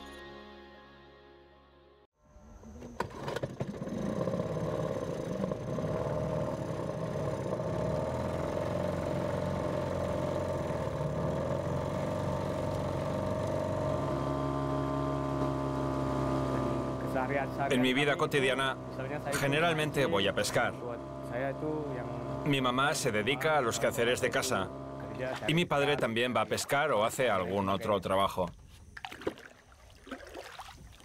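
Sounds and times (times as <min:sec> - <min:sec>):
outboard motor running: 0:02.4 - 0:31.0.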